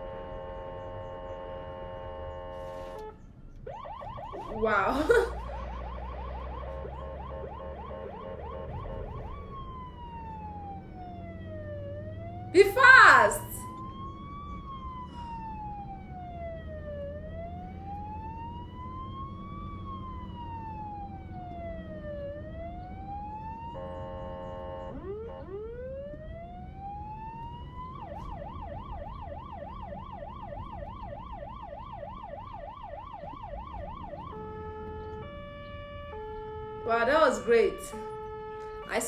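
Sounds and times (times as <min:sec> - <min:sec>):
emergency vehicle siren: 0:00.0 - 0:39.0
low traffic rumble: 0:00.0 - 0:39.0.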